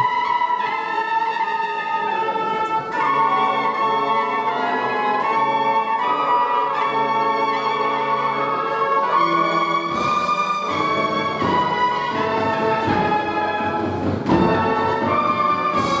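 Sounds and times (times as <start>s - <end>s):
brass band playing slow chords: 0.0s - 16.0s.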